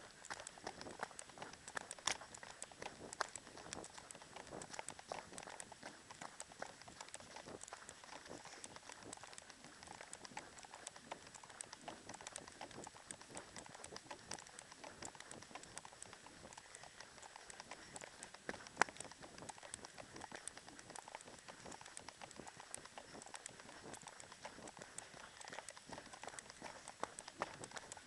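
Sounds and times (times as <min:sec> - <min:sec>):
running footsteps: 0:00.0 - 0:28.0.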